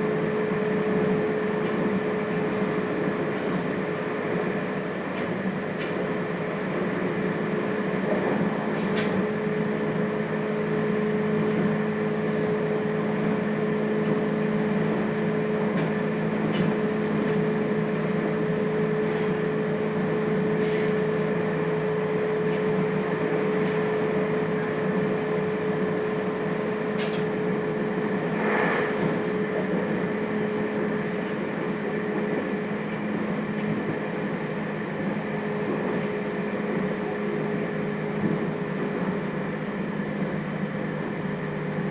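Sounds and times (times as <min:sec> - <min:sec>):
electric train running hum: 0:00.0 - 0:41.9.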